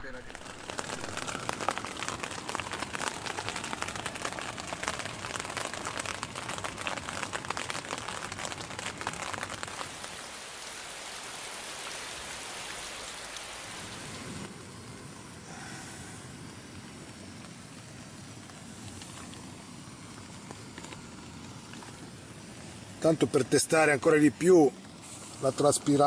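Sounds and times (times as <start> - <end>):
heavy rain on a tent: 0.0 - 26.0.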